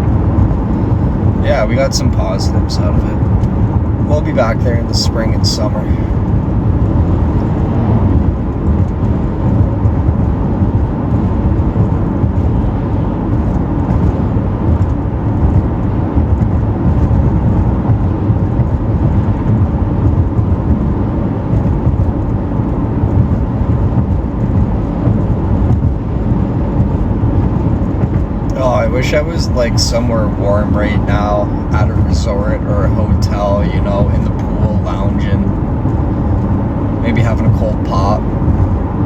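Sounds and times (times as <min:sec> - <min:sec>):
vehicle road and engine rumble: 0:00.0 - 0:39.0.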